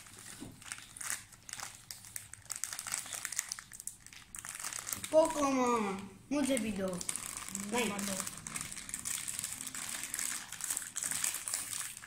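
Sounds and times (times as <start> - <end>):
plastic wrapper crinkling: 0.0 - 5.7, 6.3 - 12.0.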